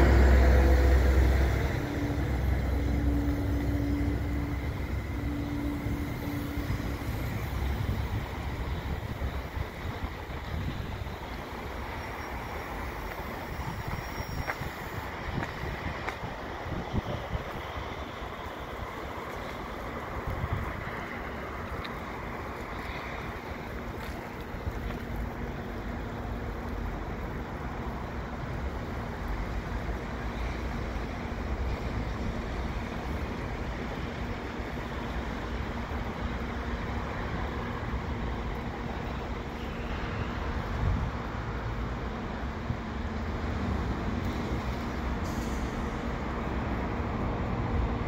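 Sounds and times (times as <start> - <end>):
diesel locomotive rumbling: 0.0 - 48.0.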